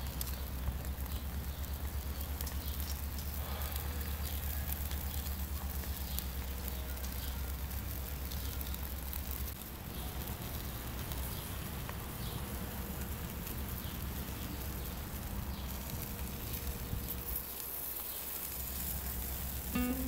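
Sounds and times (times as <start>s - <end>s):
chicken wings sizzling on grill: 0.0s - 20.0s
low constant rumble: 0.0s - 20.0s.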